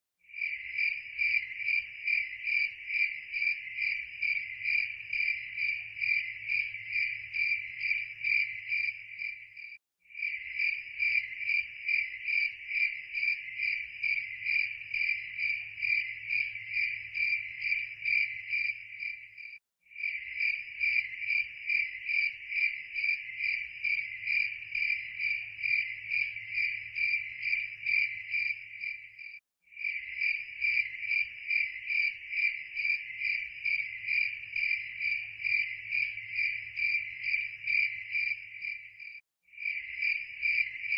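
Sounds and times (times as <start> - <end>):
cricket chirping: 0.2 - 40.9.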